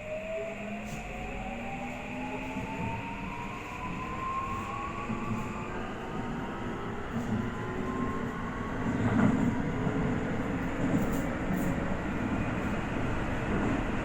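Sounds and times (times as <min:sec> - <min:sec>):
train wheels rumbling on rail: 0:00.2 - 0:14.0.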